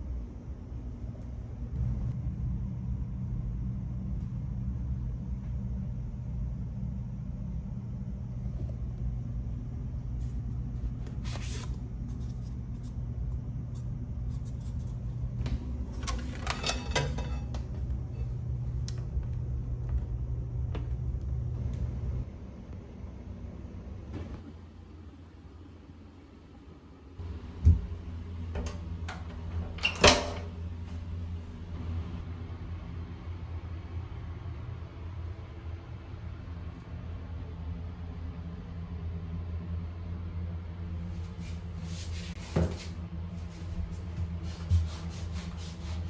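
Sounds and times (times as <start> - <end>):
ventilation rumble: 0.0 - 46.0.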